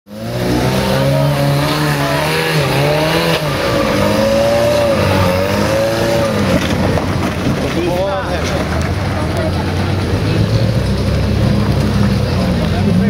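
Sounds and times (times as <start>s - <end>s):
buggy engine revving under load: 0.1s - 13.0s.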